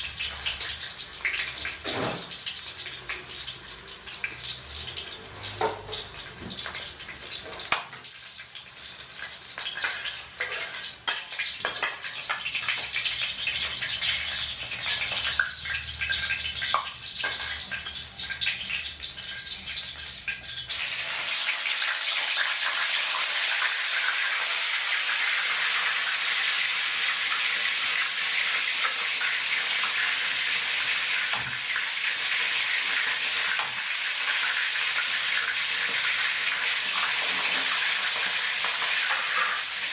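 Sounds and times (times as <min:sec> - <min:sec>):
fish sizzling in oil: 0:00.0 - 0:39.9
hot oil crackling and spitting: 0:00.0 - 0:39.9.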